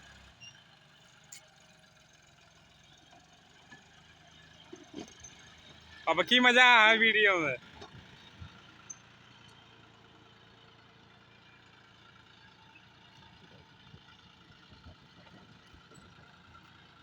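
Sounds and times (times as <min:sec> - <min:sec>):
faint engine running: 0:00.0 - 0:17.0.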